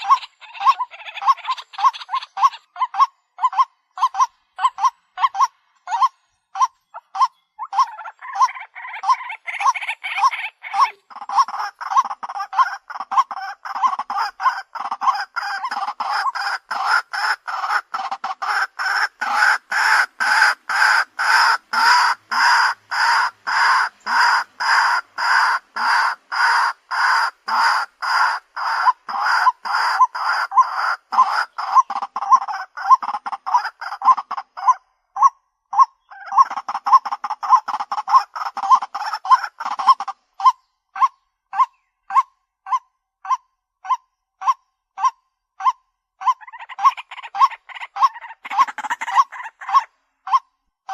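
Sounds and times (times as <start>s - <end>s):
waterhen repeated calls: 0.0s - 50.9s.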